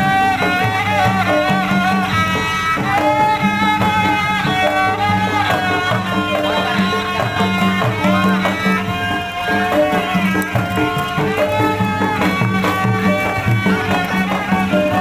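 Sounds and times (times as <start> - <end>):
bowed fiddle melody: 0.0 - 15.0
hand drums beating: 0.0 - 15.0.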